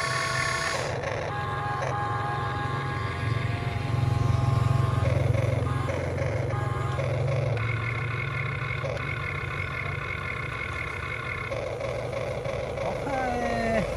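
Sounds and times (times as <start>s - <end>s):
low buzzing hum: 0.0s - 13.9s
small electric motors whining: 0.0s - 13.9s.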